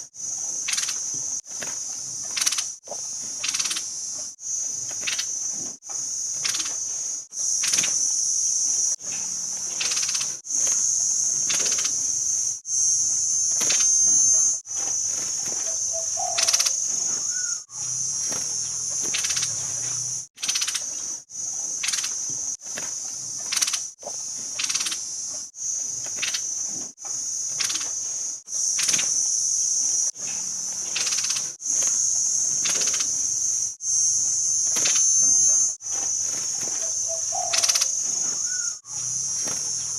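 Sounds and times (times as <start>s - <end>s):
insect-like buzzing: 0.0s - 39.9s
songbird calls: 0.0s - 39.9s.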